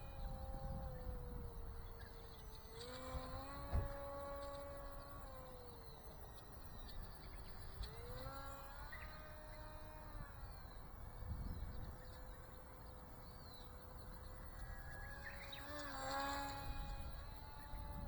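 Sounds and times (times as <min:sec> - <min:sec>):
electric motor propeller whining: 0:00.0 - 0:18.0.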